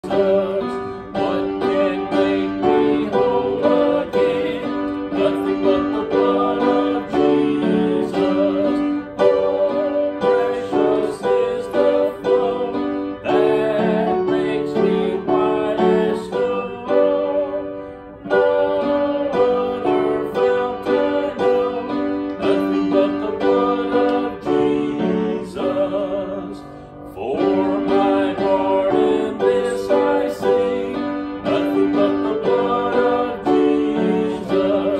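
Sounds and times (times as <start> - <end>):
piano and guitar music: 0.0 - 34.9.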